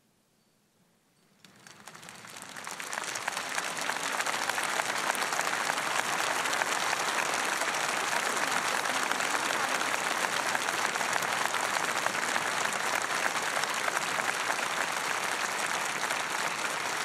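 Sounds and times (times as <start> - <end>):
large crowd applauding: 1.4 - 17.0.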